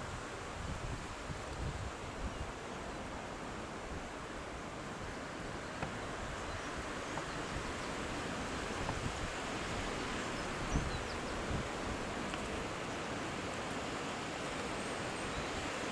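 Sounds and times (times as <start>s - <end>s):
wind hiss on microphone: 0.0s - 15.9s.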